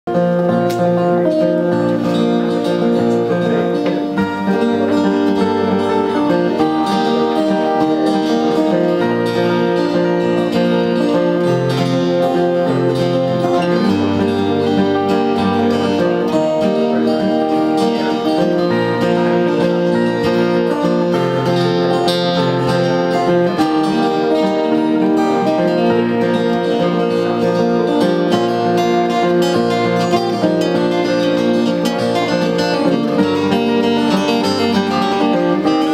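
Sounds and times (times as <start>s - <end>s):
acoustic guitars strumming: 0.1s - 35.9s.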